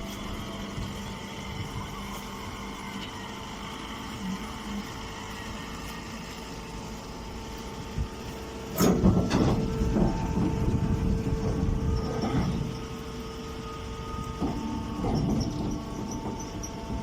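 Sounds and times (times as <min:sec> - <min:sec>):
baling machine humming: 0:00.0 - 0:17.0.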